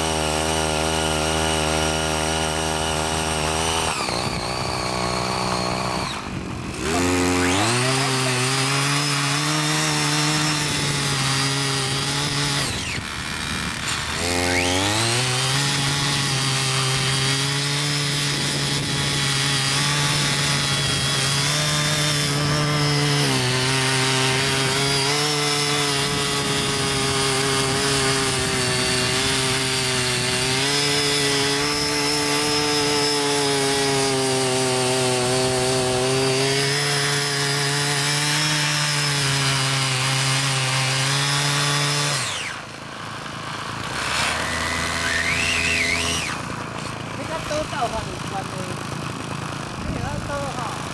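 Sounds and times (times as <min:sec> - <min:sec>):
small petrol engine revving: 0:00.0 - 0:50.9.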